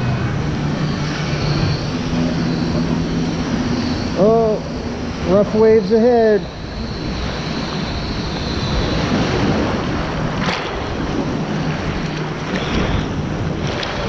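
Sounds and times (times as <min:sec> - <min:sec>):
churning water rushing: 0:00.0 - 0:14.0
wind on microphone: 0:00.0 - 0:14.0.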